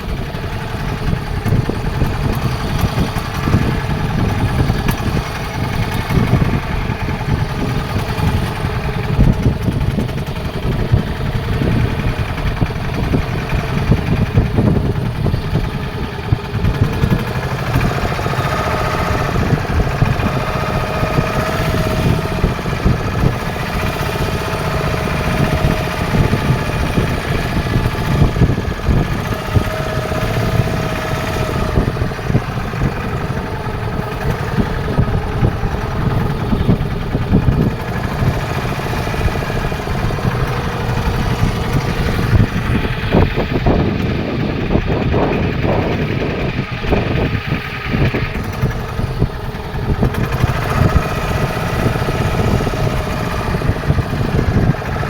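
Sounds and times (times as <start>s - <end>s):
boat engine chugging: 0.0s - 55.0s.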